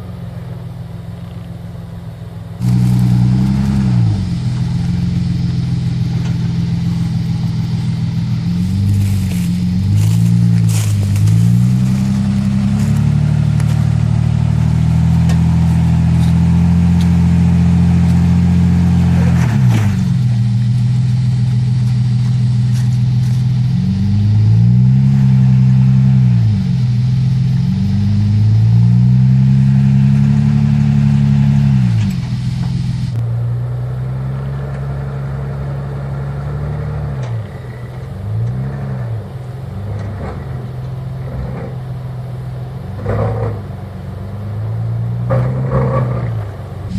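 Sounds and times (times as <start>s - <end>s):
engine revving: 2.6s - 46.9s.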